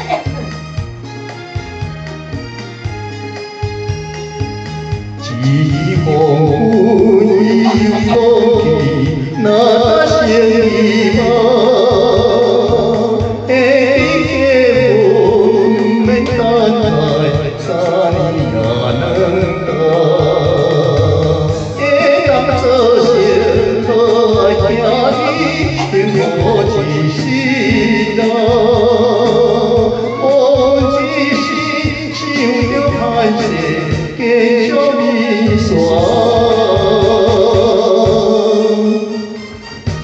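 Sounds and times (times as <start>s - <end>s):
rhythmic bass accompaniment: 0.0s - 40.0s
wavering vocal melody with vibrato: 5.1s - 40.0s.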